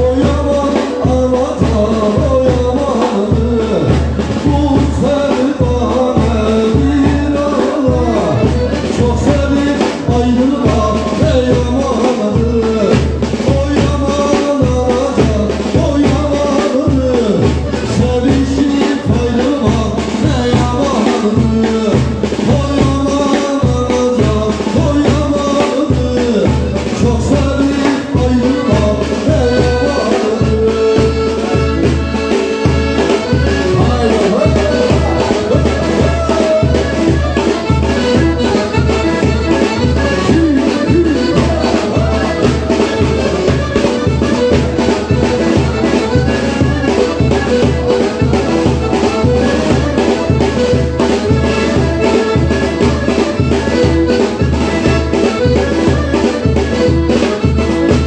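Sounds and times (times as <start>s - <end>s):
heavy drum beat: 0.0s - 58.0s
live band playing dance music: 0.0s - 58.0s
man singing into microphone: 0.0s - 58.0s.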